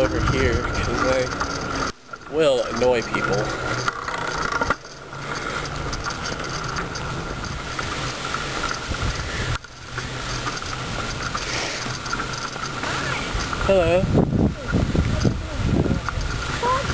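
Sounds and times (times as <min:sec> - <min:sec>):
bicycle freewheel ticking: 0:00.0 - 0:14.0.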